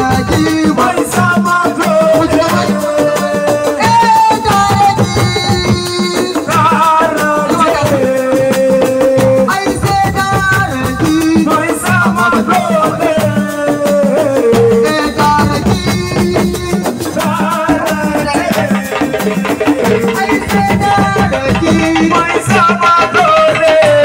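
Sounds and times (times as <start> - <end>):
fast percussion: 0.0 - 24.0.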